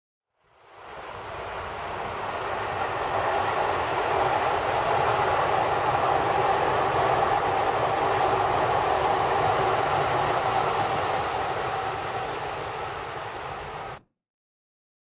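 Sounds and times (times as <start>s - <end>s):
electric train passing: 0.4s - 14.0s.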